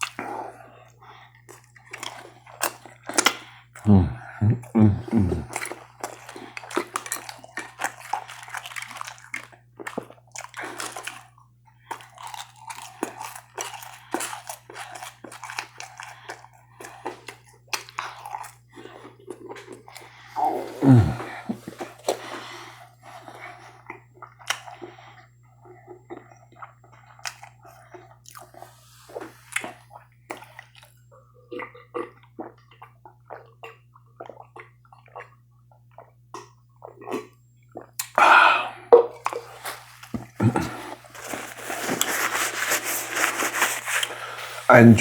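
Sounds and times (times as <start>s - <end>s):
chewing and biting food: 0.0s - 38.2s, 39.2s - 44.7s.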